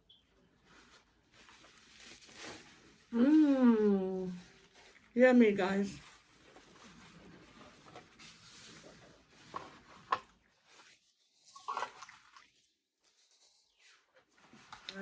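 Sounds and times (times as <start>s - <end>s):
food rustling: 0.6s - 3.2s, 4.3s - 15.0s.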